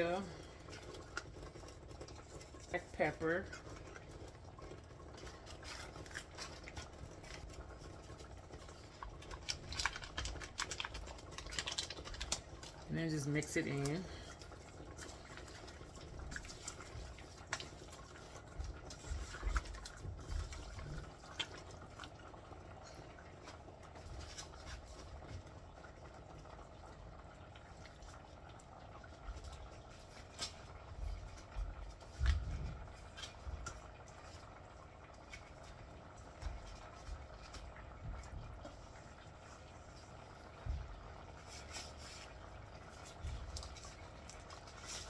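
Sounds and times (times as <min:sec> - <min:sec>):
wet sloppy stirring: 0:00.0 - 0:45.0.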